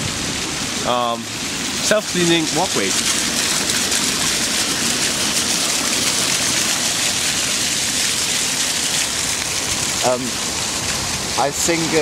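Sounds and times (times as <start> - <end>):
water splashing onto pavement: 0.0 - 12.0.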